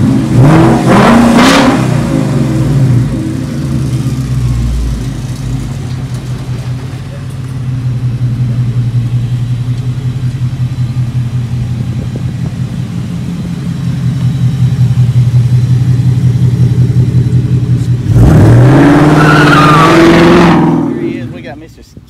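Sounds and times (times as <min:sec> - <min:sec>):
car engine idling and revving: 0:00.0 - 0:21.7.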